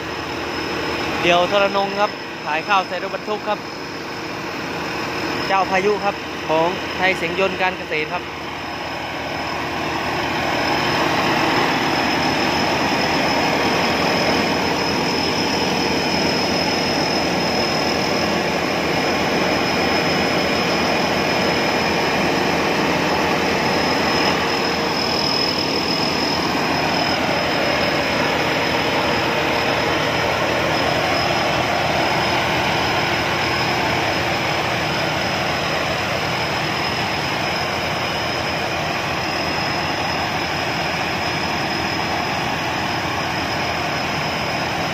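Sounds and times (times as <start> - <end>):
combine harvester engine din: 0.0 - 44.9
high mechanical whine: 0.0 - 44.9.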